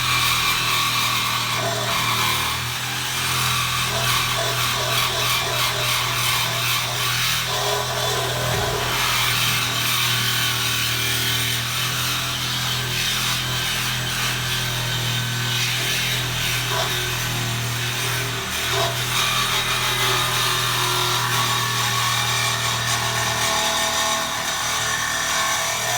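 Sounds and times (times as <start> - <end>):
power saw cutting steel tubing: 0.0 - 25.9.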